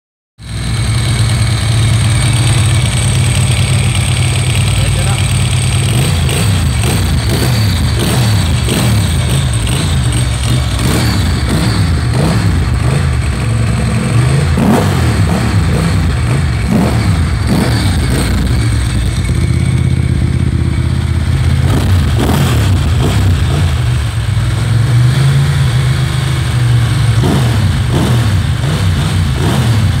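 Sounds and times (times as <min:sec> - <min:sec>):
motorcycle engine revving: 0:00.4 - 0:30.0.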